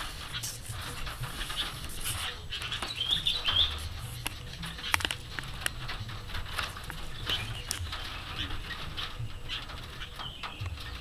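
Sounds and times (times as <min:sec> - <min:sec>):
clicks and rustles on mesh: 0:00.0 - 0:11.0
wings flapping: 0:00.0 - 0:11.0.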